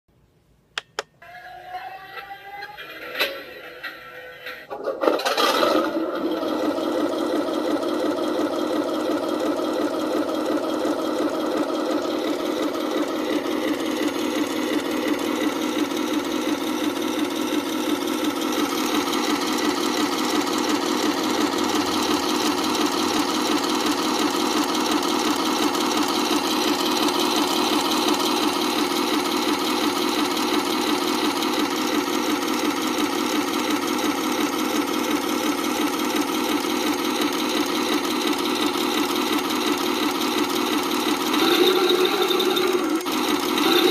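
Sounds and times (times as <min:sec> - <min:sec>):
simulated tank engine throbbing: 0:01.5 - 0:43.9.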